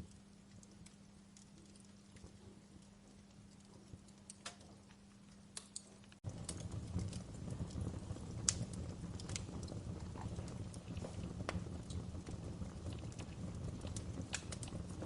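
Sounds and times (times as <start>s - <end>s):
low rumble of burning: 0.0s - 15.0s
wood fire crackling and popping: 0.0s - 15.0s.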